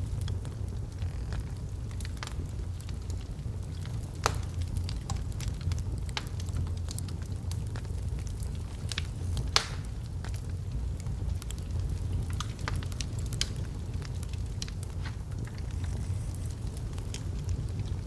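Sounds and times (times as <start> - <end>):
fire rumbling in fireplace: 0.0 - 18.0
wood crackling and popping: 0.0 - 18.0.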